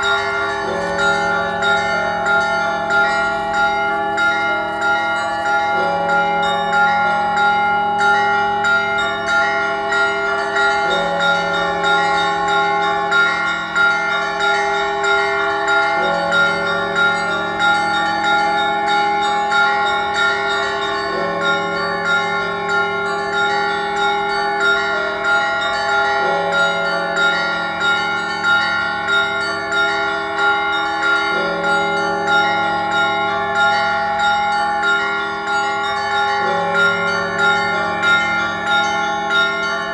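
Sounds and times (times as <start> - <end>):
big bell strikes: 0.0 - 39.9
smaller higher bells ringing: 0.0 - 39.9.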